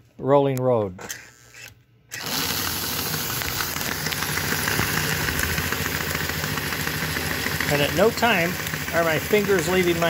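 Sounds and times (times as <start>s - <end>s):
model train motor whirring: 1.0s - 10.0s.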